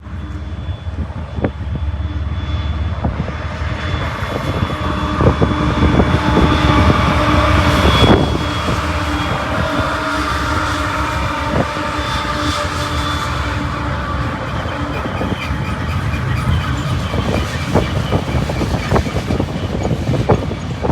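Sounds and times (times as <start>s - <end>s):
diesel locomotives rumbling: 0.0s - 20.9s.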